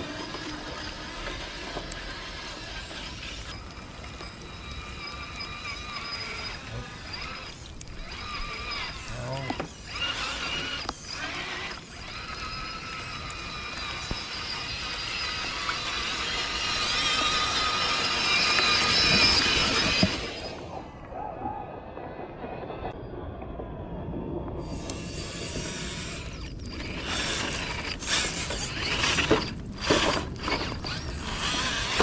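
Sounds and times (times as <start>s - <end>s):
rc car motor whining: 0.0s - 23.0s, 24.6s - 32.0s.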